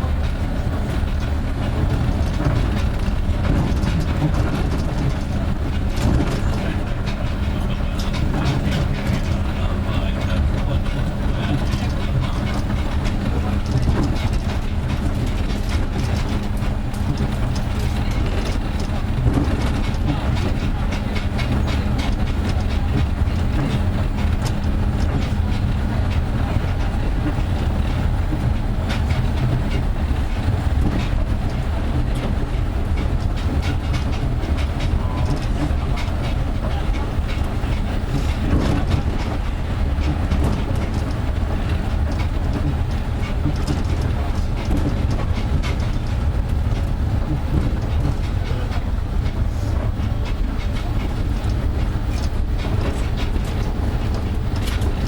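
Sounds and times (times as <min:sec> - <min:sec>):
train running on rubber tyres: 0:00.0 - 0:55.0.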